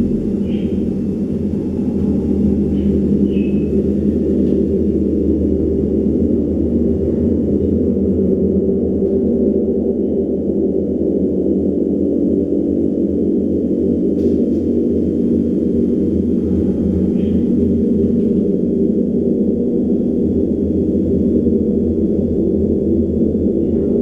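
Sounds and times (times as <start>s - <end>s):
deep gong drone: 0.0s - 24.0s.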